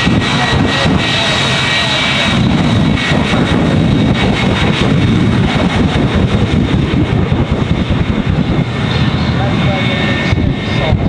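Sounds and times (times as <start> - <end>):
jet engines roaring with high whine: 0.0 - 11.0.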